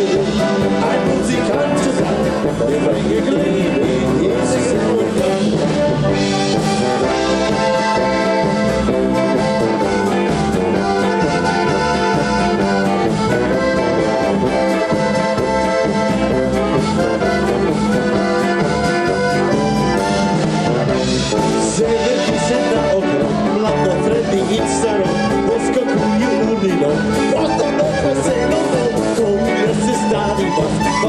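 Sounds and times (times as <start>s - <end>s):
accordions playing: 0.0s - 31.0s
brass horn: 0.0s - 31.0s
polka band music: 0.0s - 31.0s.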